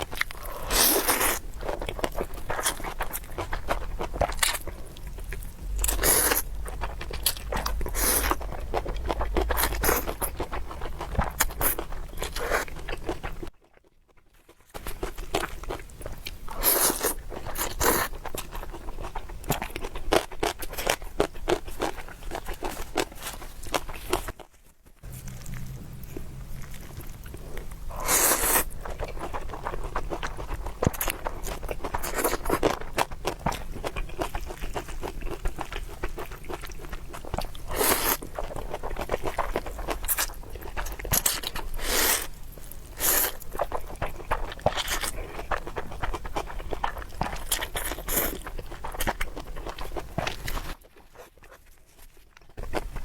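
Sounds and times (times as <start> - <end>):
wet chewing with crunchy bites: 0.0 - 53.0.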